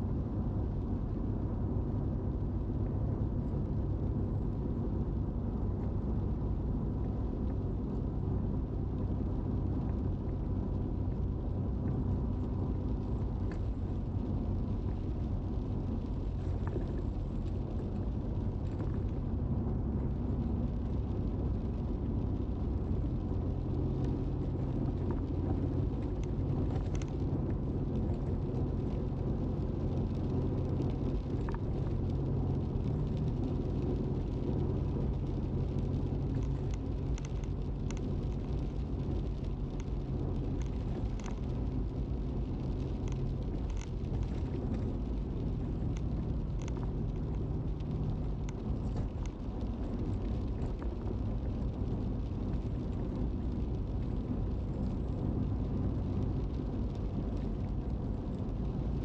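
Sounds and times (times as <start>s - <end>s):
car engine and tyre rumble: 0.0s - 59.0s
raindrops ticking: 9.7s - 59.0s.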